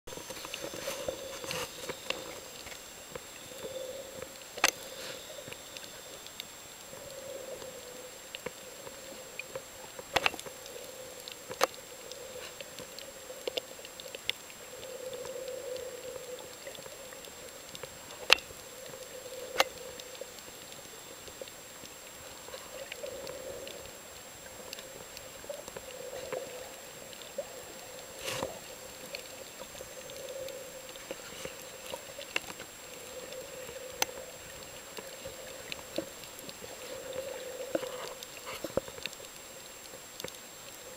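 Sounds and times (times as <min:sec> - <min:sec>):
faint high whine: 0:00.1 - 0:40.9
muffled underwater wash: 0:00.1 - 0:40.9.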